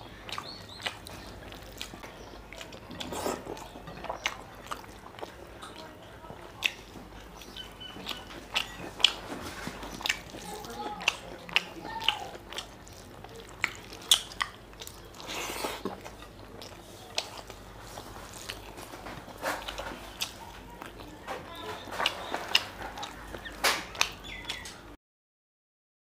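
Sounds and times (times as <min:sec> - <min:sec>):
wet chewing and lip smacks: 0:00.1 - 0:24.8.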